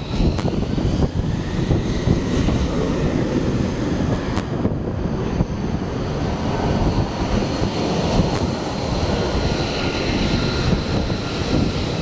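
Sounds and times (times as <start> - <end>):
jet engine rushing roar: 0.0 - 12.0.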